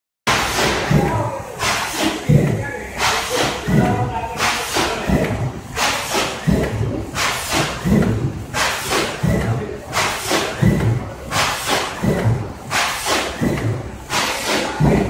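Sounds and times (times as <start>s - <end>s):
industrial press thumping: 0.3s - 15.0s.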